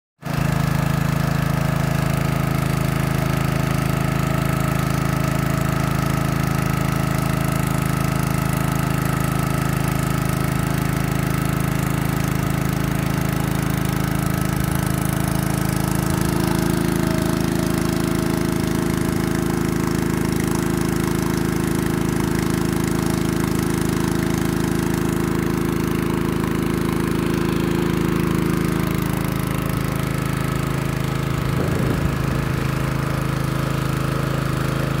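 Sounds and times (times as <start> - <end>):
water pump engine running: 0.2 - 35.0.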